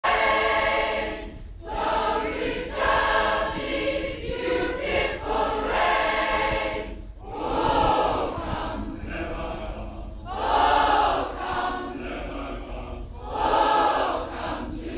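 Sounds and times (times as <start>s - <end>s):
choir singing: 0.0s - 14.9s.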